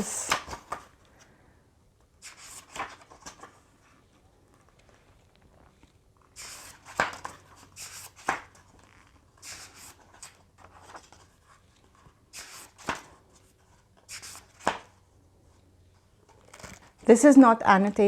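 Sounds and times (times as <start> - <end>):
book pages turning: 0.0 - 1.3, 2.0 - 17.1.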